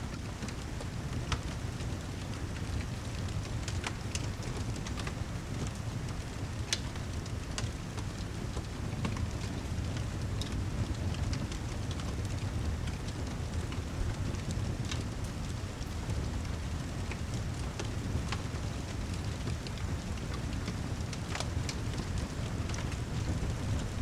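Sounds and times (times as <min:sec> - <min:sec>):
fireplace fire crackling: 0:00.0 - 0:24.0
rain falling: 0:00.1 - 0:24.0.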